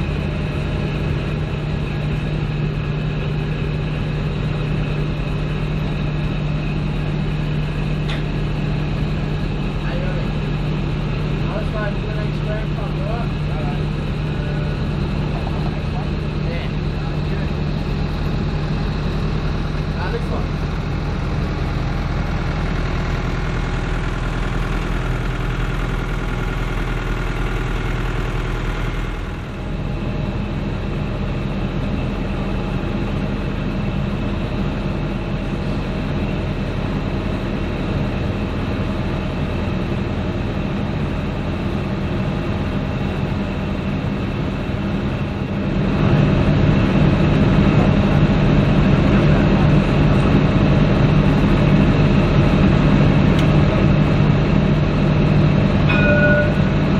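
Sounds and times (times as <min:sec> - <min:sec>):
diesel engine running at low revs: 0:00.0 - 0:56.9.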